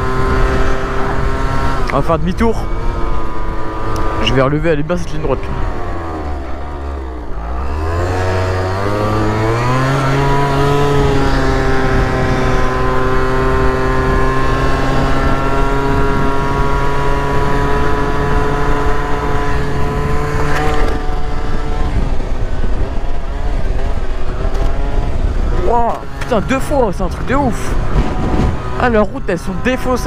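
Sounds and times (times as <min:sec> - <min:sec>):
two-stroke scooter engine revving: 0:00.0 - 0:30.0.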